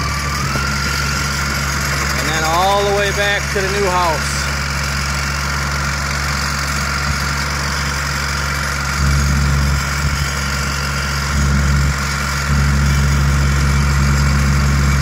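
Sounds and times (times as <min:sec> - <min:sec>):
trencher engine running: 0:00.0 - 0:15.0.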